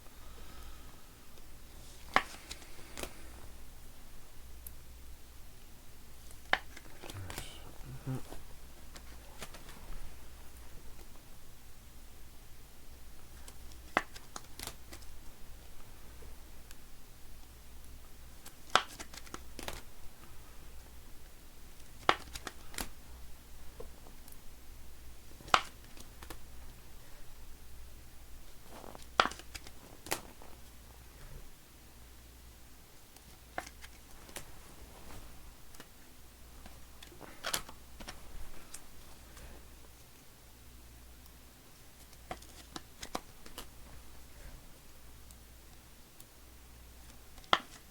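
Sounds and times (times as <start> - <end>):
low steady hum: 0.0 - 47.9
light rustling of cards: 0.3 - 3.7, 6.1 - 11.3, 13.2 - 16.8, 17.4 - 24.5, 25.1 - 31.6, 33.1 - 40.3, 41.7 - 46.3, 47.0 - 47.9.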